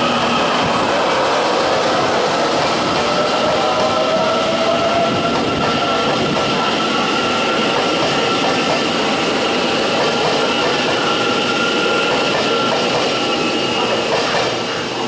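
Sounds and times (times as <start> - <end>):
train motor whine: 0.0 - 14.9
train wheels rolling on rails: 0.0 - 15.0.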